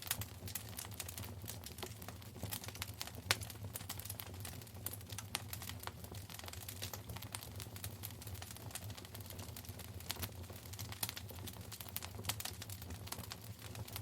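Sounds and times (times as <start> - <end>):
wood fire crackling in fireplace: 0.0 - 14.0.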